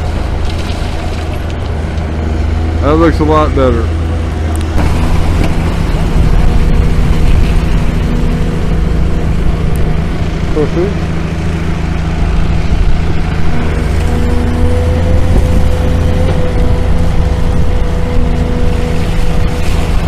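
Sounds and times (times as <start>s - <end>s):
excavator diesel engine running: 0.0s - 20.0s
hydraulic whine: 0.0s - 20.0s.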